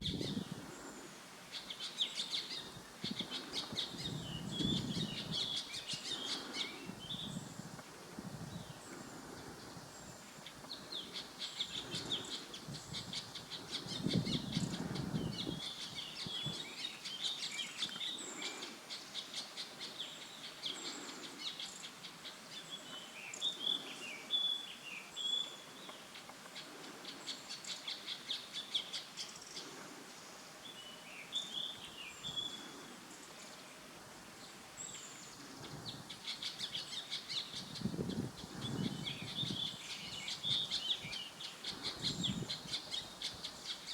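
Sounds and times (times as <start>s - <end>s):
birds chirping and trilling: 0.0s - 7.8s, 8.5s - 43.9s.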